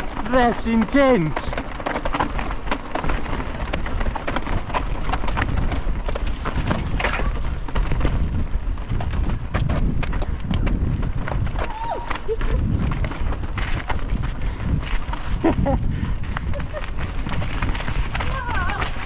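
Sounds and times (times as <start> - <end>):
bike rattling over rock: 0.0 - 19.0.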